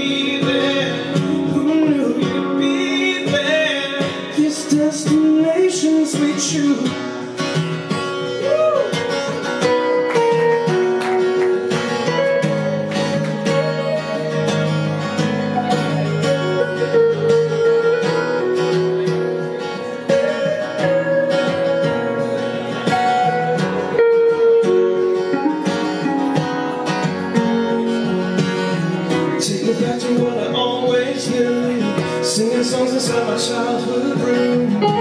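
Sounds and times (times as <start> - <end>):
electric guitar lead: 0.0 - 35.0
strummed acoustic guitar: 0.0 - 35.0.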